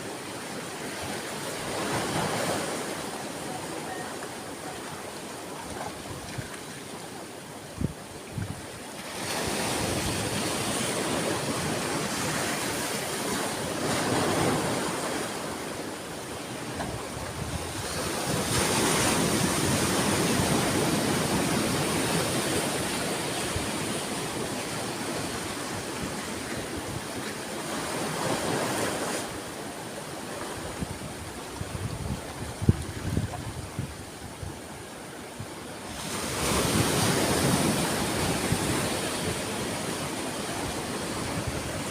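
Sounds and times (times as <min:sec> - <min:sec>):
sea waves washing ashore: 0:00.0 - 0:41.9.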